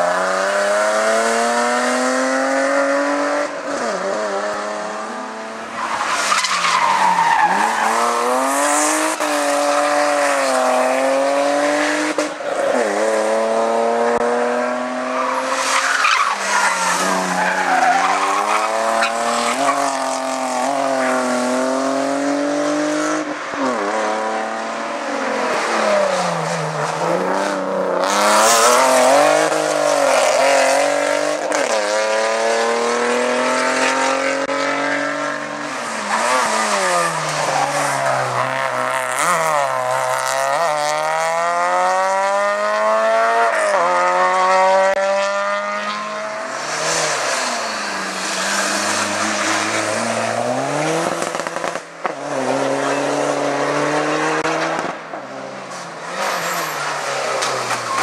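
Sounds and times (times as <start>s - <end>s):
race cars accelerating: 0.0s - 58.0s.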